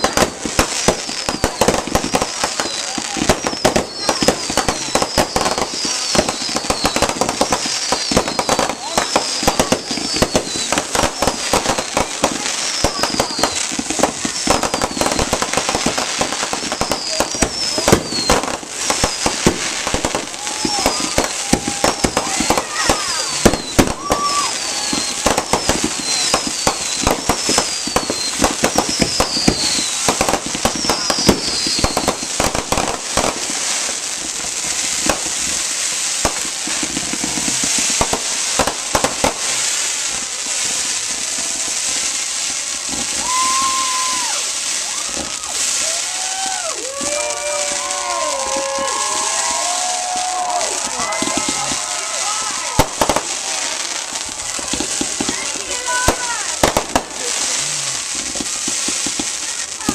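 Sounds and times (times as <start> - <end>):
fireworks bangs and crackling: 0.0 - 59.9
fireworks whistles: 0.0 - 59.9.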